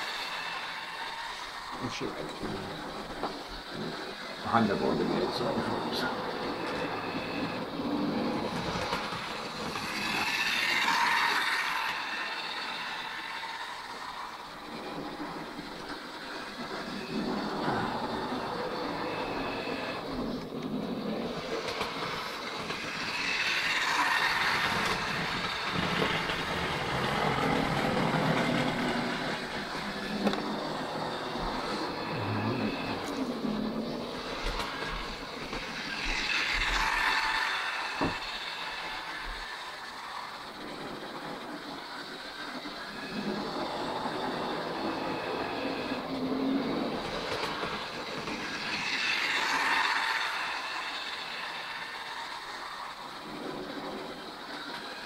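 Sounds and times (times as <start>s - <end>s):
model train whirring on rails: 0.0s - 55.0s.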